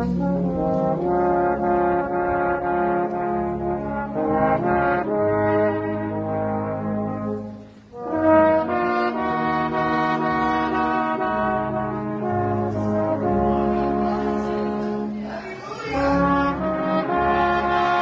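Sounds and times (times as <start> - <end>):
brass ensemble playing held chords: 0.0 - 18.0.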